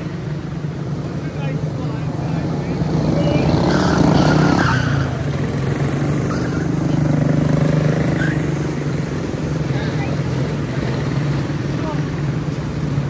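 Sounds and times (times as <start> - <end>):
race car engines buzzing: 0.0 - 13.0.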